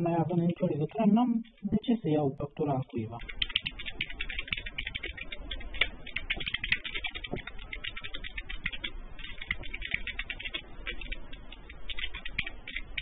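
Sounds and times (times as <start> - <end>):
keyboard typing over telephone: 0.0 - 2.0, 3.2 - 13.0.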